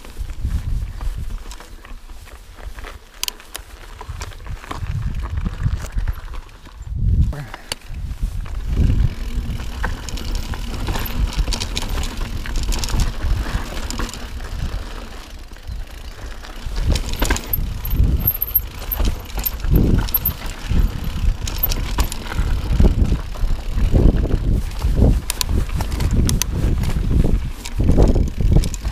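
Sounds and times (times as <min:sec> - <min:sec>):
bike knocking and rattling on rocks: 0:02.6 - 0:28.9.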